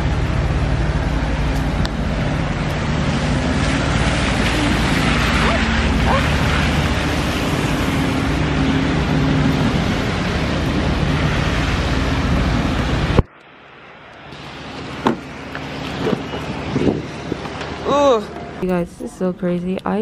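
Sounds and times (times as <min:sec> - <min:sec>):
car road noise: 0:00.0 - 0:20.0
low engine hum: 0:00.0 - 0:20.0.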